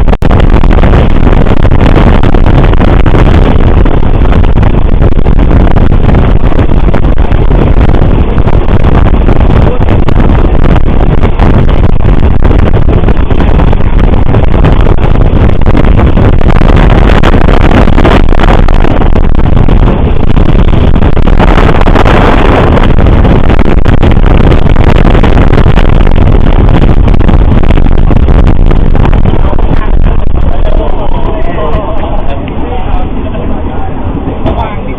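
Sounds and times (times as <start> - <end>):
train rumble: 0.0 - 34.9
wind buffeting microphone: 0.0 - 34.9.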